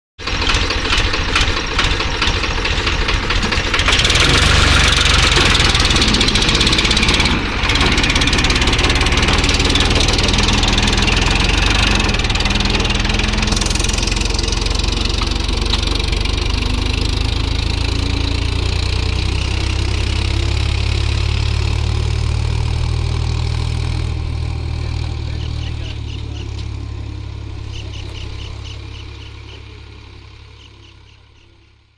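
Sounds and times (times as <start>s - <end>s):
tractor diesel engine running: 0.2s - 31.9s.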